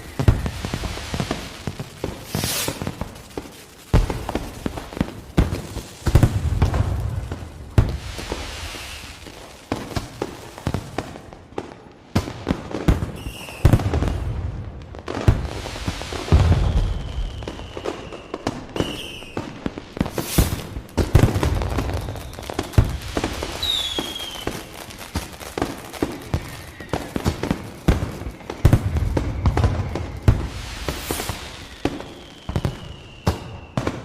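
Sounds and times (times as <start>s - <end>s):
deep firework booms: 0.0s - 11.1s, 12.2s - 34.0s
falling firework whistles: 0.0s - 34.0s
fireworks bangs and crackling: 0.0s - 34.0s.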